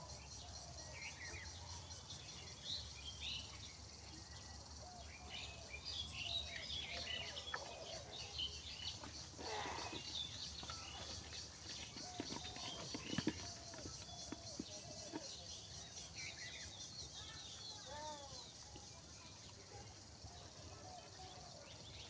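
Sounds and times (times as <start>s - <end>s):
small birds chirping: 1.0s - 22.0s.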